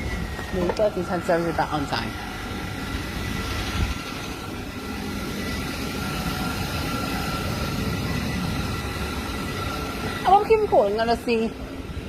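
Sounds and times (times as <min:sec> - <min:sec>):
thin high whine: 0:00.0 - 0:12.0
train rumble: 0:00.0 - 0:12.0.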